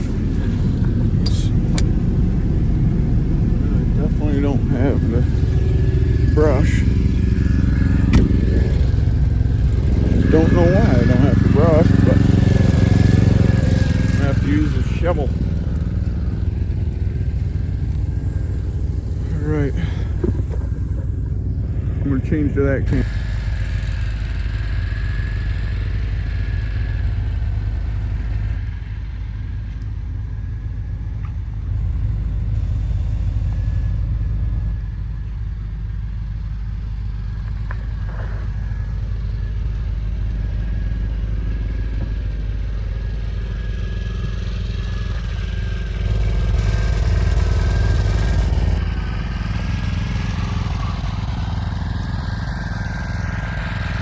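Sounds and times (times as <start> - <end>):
engine running with low rumble: 0.0 - 54.0.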